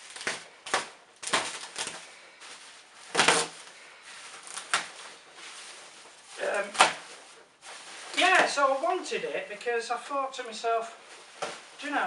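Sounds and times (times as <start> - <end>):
cardboard and wrapping rustling: 0.0 - 12.0.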